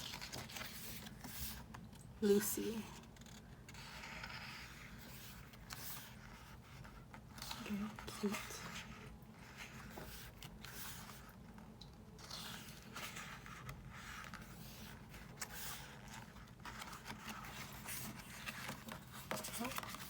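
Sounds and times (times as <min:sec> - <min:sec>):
paper pages turning: 0:00.0 - 0:20.0.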